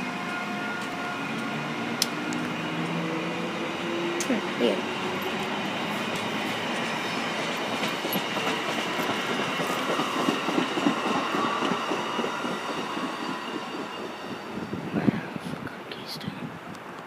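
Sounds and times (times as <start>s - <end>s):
train wheels rumbling on rails: 0.0s - 15.7s.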